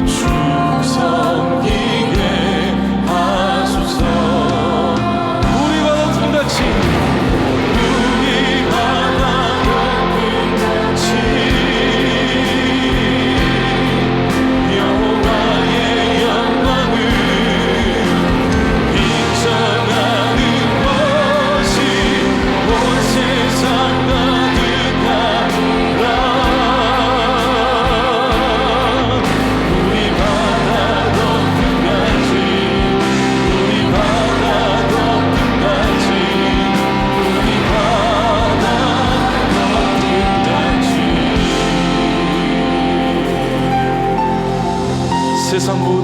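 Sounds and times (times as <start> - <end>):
vocalists singing with vibrato: 0.0 - 46.0
worship band playing: 0.0 - 46.0.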